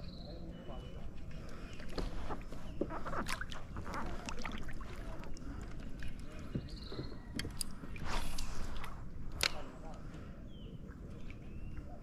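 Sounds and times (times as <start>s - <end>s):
paddle splashing water: 0.9s - 12.0s.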